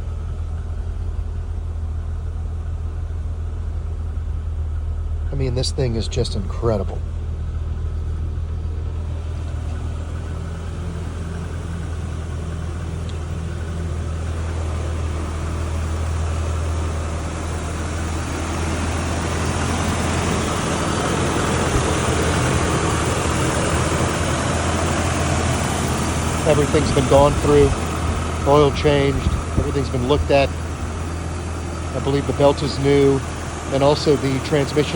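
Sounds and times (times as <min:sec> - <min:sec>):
cold engine idling: 0:00.0 - 0:34.9.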